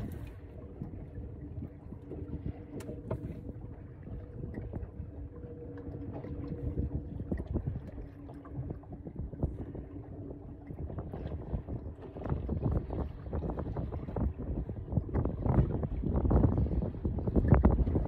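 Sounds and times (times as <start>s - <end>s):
steady low hum: 0.0s - 18.0s
water splashing and sloshing: 0.0s - 18.0s.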